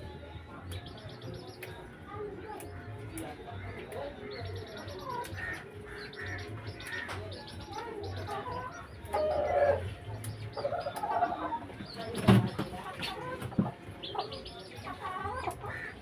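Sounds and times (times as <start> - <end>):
small birds chirping: 0.0 - 16.0
chickens clucking: 2.6 - 16.0.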